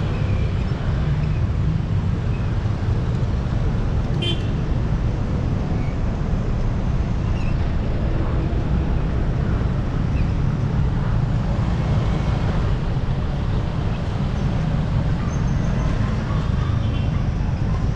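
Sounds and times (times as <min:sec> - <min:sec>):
road traffic: 0:00.0 - 0:17.9.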